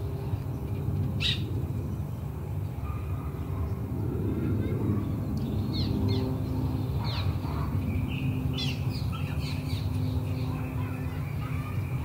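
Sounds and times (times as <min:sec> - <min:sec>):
songbirds chirping: 0:00.0 - 0:12.0
steady low rumble: 0:00.0 - 0:12.0.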